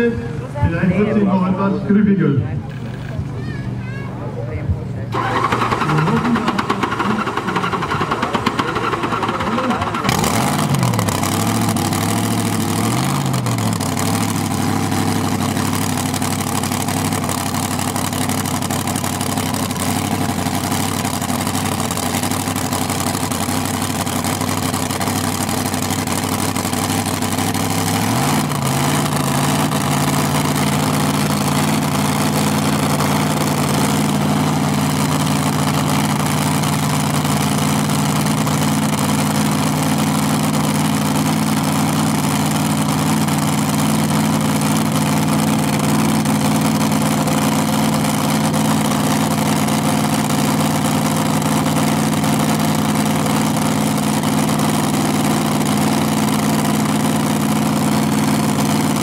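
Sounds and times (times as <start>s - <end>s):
tractor engine revving: 0.0s - 3.4s, 5.0s - 59.0s.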